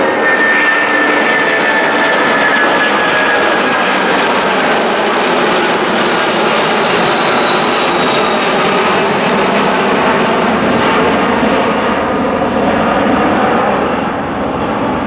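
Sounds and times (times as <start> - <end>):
jet aircraft roar with whine: 0.0 - 15.0.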